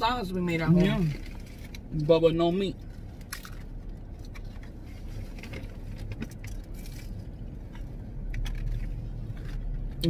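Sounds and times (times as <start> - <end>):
low hum inside car: 0.0 - 10.0.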